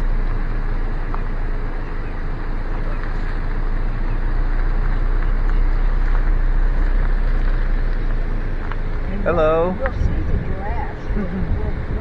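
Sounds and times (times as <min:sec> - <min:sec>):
car driving with windows down: 0:00.0 - 0:12.0.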